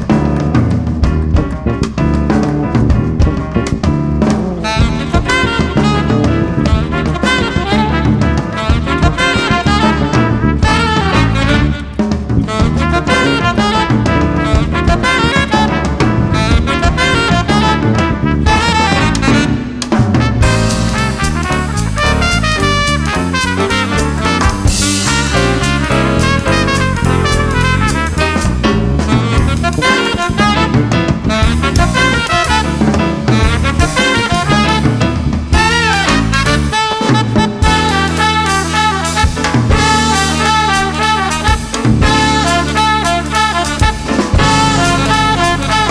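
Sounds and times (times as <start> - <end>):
swing jazz band playing: 0.0 - 45.9.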